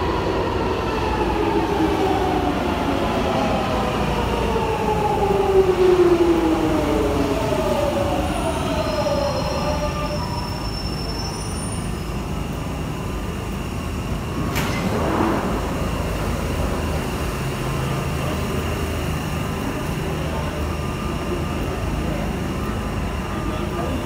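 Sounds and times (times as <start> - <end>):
train low rumble: 0.0 - 24.0.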